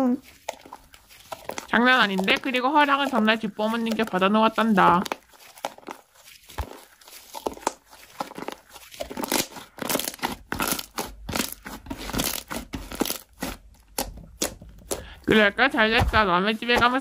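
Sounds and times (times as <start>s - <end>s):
slime crackling and popping: 0.2s - 17.0s.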